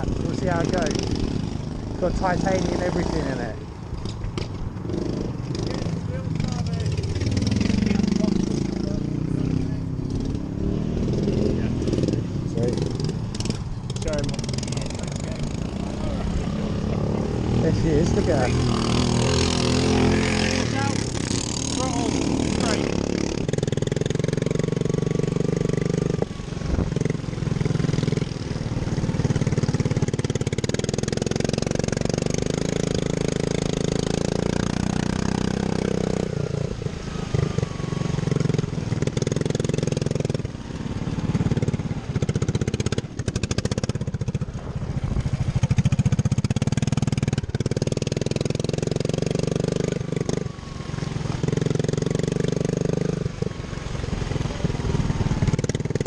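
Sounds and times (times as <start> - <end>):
racing lawn mower engine: 0.0 - 56.0.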